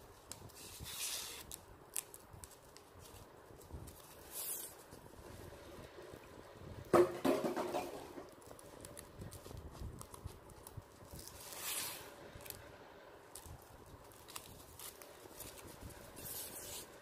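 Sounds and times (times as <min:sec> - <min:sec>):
soft sliding hiss: 0:00.0 - 0:06.8, 0:07.9 - 0:17.0
ribbon rustling and crinkling: 0:00.0 - 0:06.9, 0:08.1 - 0:17.0.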